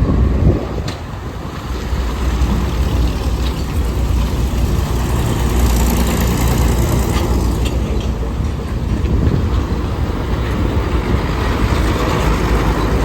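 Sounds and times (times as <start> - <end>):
heavy vehicle engine rumbling: 0.0 - 13.0
traffic noise: 0.0 - 13.0.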